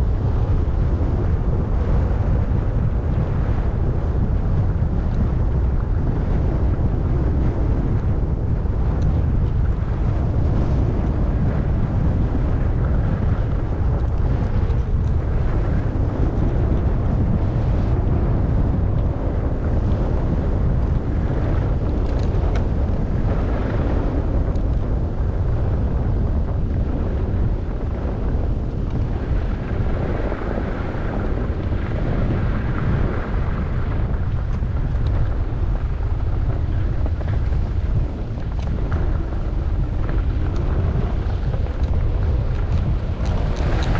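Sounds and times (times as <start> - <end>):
wind rumbling on microphone: 0.0 - 43.9
skis sliding over snow: 0.1 - 43.9.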